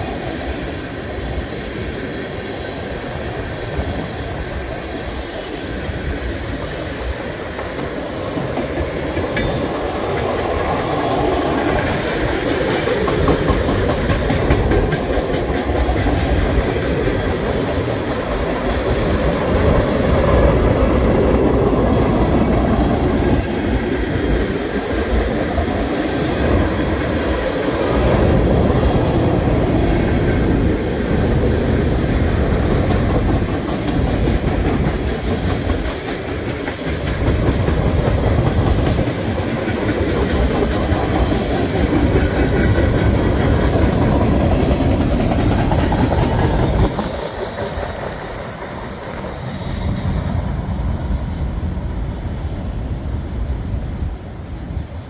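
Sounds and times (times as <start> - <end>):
clickety-clack over rail joints: 0.0 - 55.0
freight train wheels rumbling: 0.0 - 55.0.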